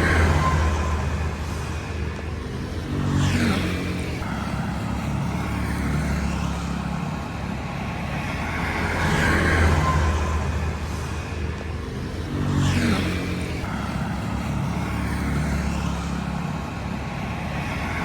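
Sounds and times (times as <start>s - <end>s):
vehicle engines running and passing: 0.0s - 18.0s.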